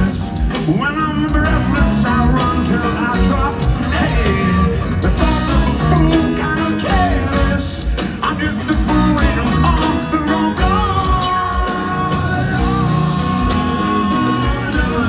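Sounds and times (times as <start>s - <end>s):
lead singer singing: 0.0s - 15.0s
live rock band playing: 0.0s - 15.0s.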